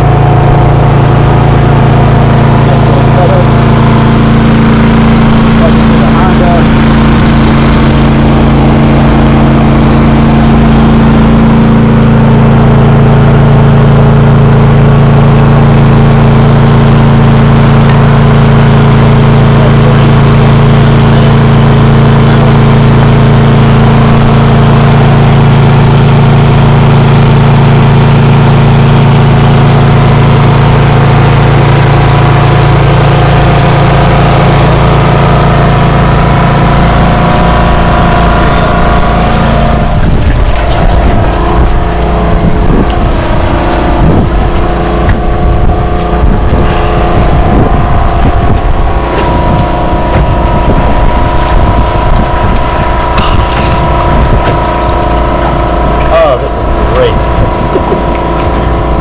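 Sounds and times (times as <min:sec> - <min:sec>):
generator engine running: 0:00.0 - 0:59.0.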